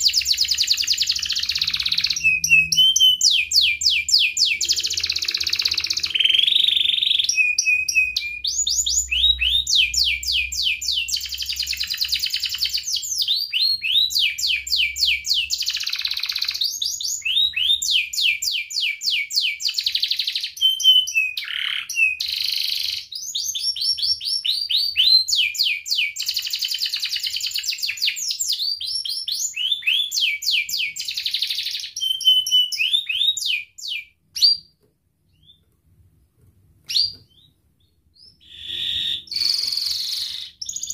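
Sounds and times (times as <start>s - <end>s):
canary singing trills: 0.0s - 35.7s, 36.8s - 40.9s.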